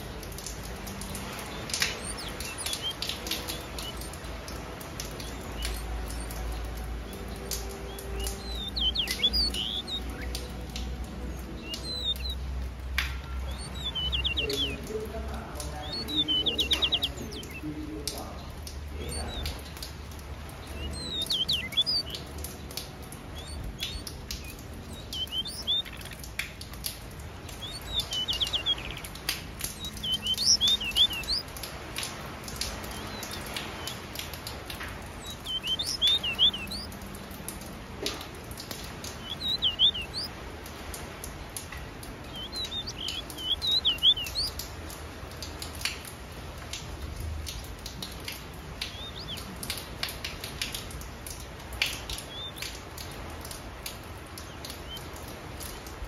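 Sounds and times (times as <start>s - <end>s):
finches chirping: 0.0s - 37.4s, 38.1s - 40.4s, 42.0s - 44.7s, 47.6s - 56.0s
beaks pecking seed: 0.0s - 45.0s, 47.5s - 56.0s.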